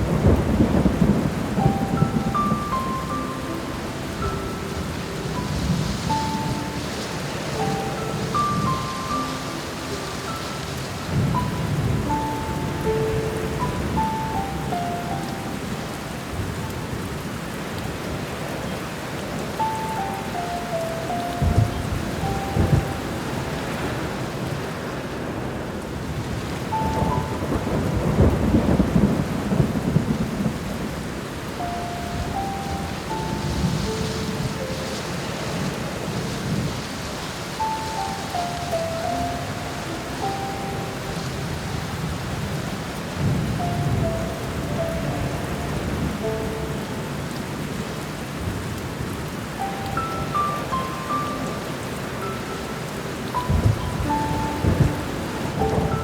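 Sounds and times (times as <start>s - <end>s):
thunder rumbling: 0.0s - 18.8s, 19.6s - 56.0s
soft piano notes: 0.0s - 56.0s
steady rain: 0.0s - 56.0s.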